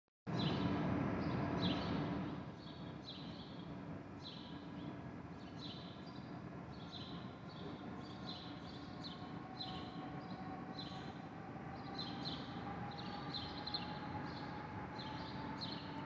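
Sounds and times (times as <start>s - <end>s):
low background hum: 0.3s - 16.0s.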